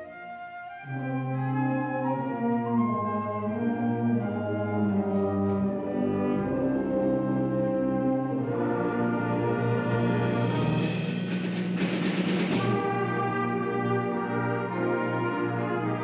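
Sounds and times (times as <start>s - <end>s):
symphonic band playing held chords: 0.0s - 16.0s.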